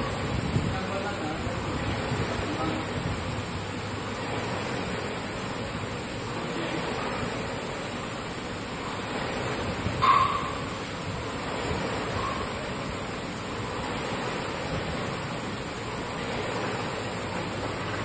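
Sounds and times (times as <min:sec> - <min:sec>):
rowing machine fan whooshing: 0:00.0 - 0:18.0.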